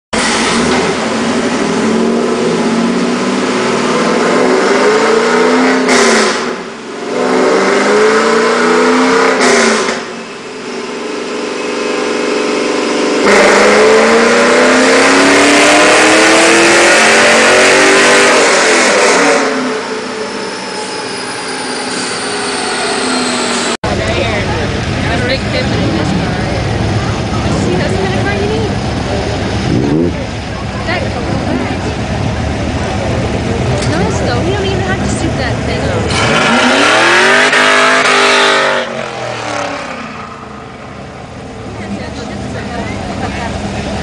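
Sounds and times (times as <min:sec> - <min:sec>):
car engine revving: 0:00.1 - 0:44.0.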